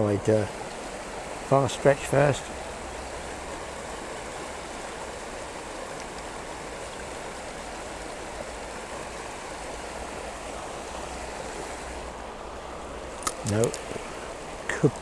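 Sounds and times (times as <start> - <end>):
river water babbling: 0.0 - 15.0.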